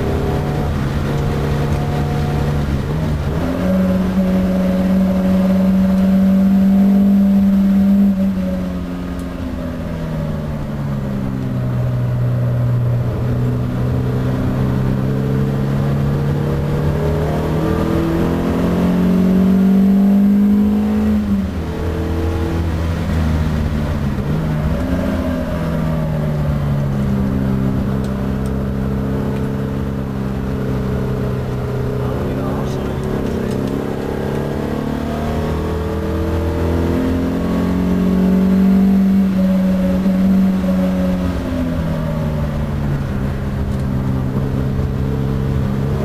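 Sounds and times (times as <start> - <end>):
car engine under load: 0.0 - 46.0.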